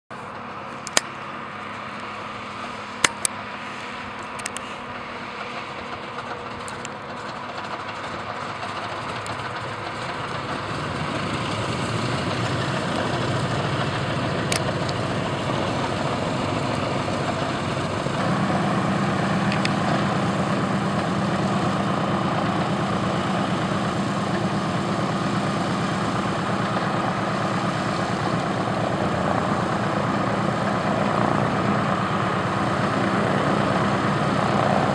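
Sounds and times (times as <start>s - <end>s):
propeller plane engines idling: 0.1s - 34.9s.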